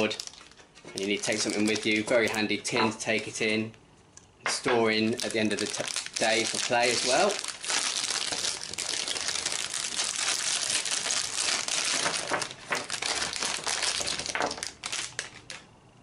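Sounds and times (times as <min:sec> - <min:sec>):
plastic packaging crinkling: 0:00.0 - 0:02.6, 0:05.0 - 0:15.7.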